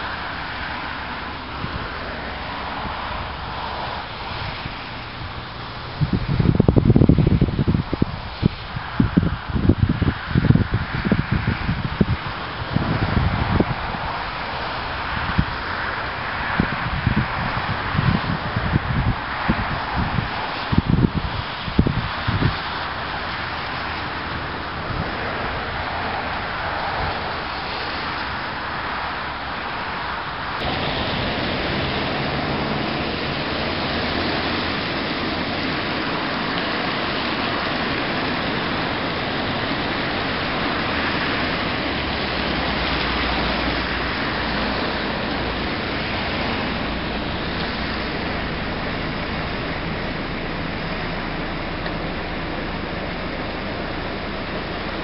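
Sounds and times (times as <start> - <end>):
diesel engine droning: 0.0 - 55.0
heavy even hiss: 0.0 - 55.0.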